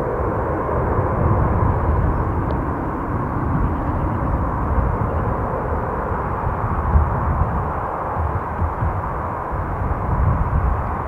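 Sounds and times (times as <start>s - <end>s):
jet engines at takeoff: 0.0s - 11.0s.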